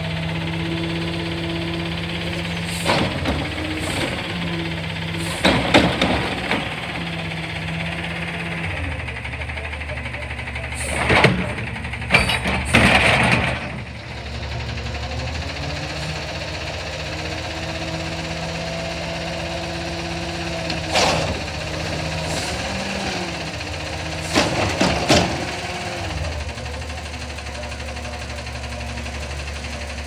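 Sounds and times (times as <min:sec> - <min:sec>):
garbage truck engine running: 0:00.0 - 0:30.0.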